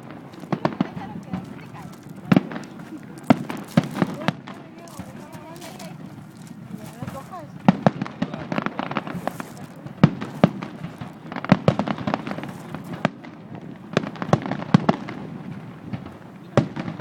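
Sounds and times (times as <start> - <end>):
fireworks bangs and pops: 0.0 - 17.0
fireworks crackle: 0.0 - 17.0.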